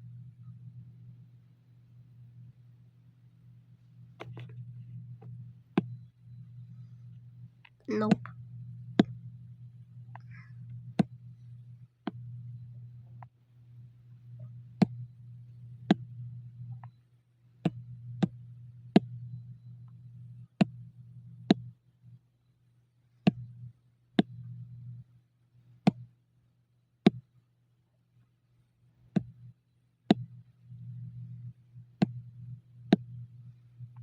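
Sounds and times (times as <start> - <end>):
low hum: 0.0 - 25.3, 29.2 - 34.0.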